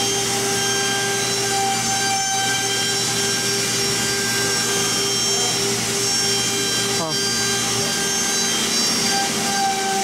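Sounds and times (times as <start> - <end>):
workshop machinery drone: 0.0 - 10.0.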